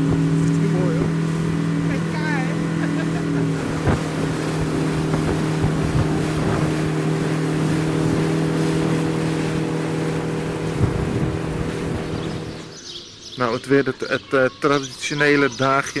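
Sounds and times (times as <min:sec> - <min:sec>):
boat engine running steadily: 0:00.0 - 0:16.0
water noise: 0:00.0 - 0:16.0
wind: 0:00.0 - 0:16.0.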